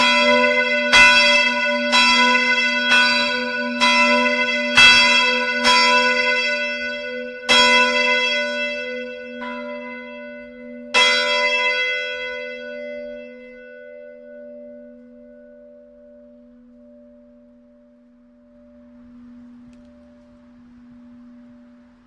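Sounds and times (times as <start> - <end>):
church bells ringing: 0.0 - 22.0
humming bell ring-out: 0.0 - 22.0.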